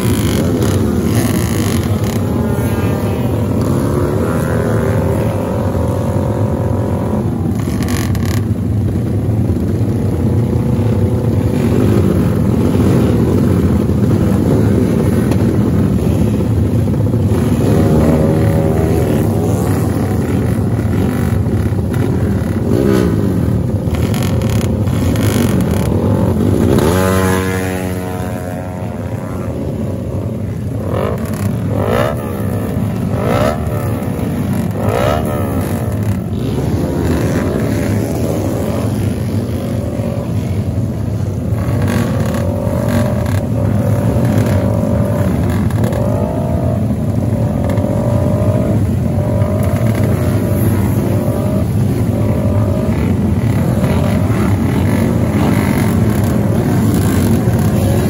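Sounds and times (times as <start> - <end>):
engine drone: 0.0 - 58.0
motorcycle engines revving: 0.0 - 58.0.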